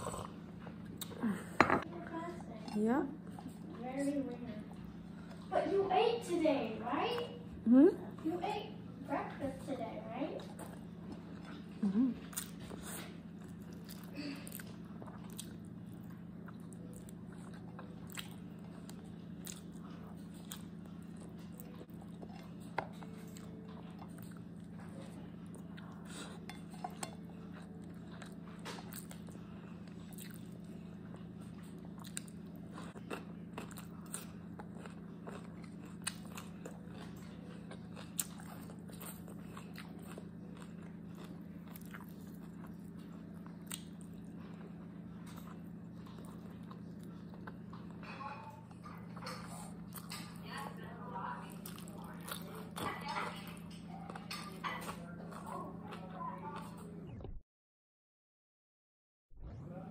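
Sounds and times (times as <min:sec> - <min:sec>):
chewing and crunching: 0:08.0 - 0:57.2.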